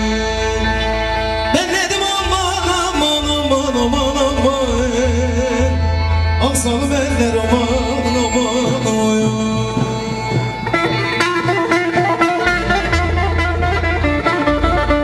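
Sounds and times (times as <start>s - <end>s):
keyboard sustained chords: 0.0s - 15.0s
man singing amplified: 0.0s - 15.0s
low beat: 1.5s - 15.0s.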